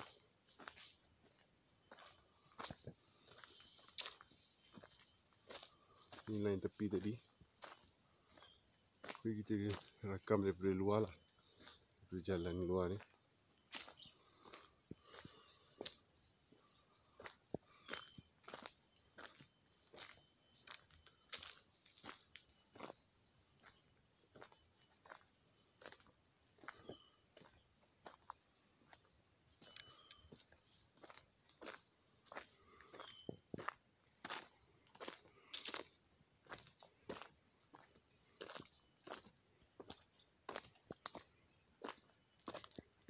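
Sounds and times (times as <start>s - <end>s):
footsteps on dirt road: 0.0s - 43.0s
high-pitched insect chorus: 0.0s - 43.0s.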